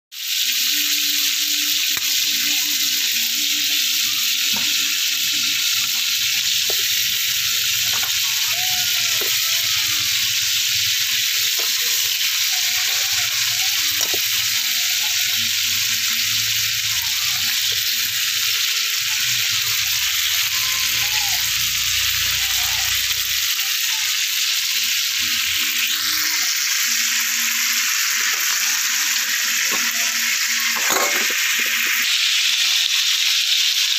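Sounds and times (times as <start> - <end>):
crabs sizzling in wok: 0.1 - 33.9.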